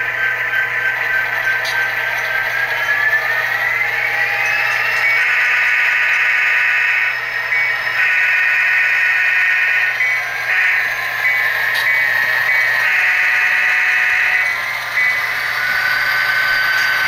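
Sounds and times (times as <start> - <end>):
model train diesel sound drone: 0.0 - 17.0.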